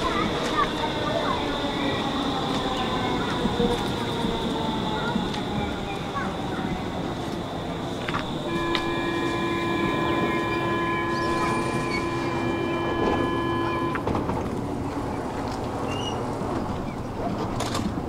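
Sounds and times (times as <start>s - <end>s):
steady multi-tone whine: 0.0s - 16.6s
train low rumble: 0.0s - 18.0s.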